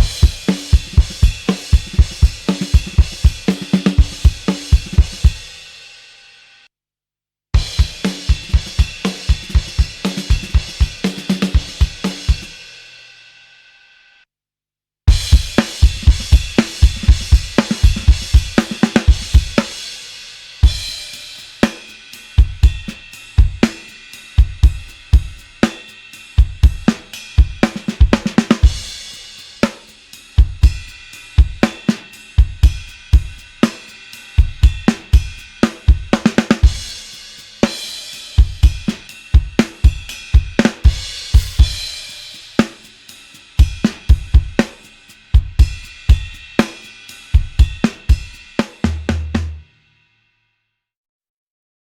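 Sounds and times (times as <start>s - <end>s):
rock drum groove: 0.0s - 5.9s, 7.6s - 12.9s, 15.1s - 49.8s.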